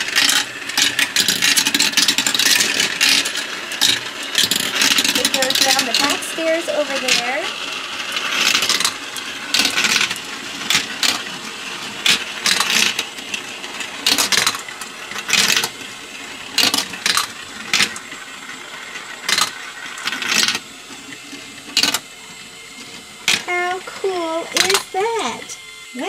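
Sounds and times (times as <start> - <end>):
marbles clattering on plastic track: 0.0 - 22.1, 22.8 - 25.6
toy belt lift whirring: 0.0 - 26.0.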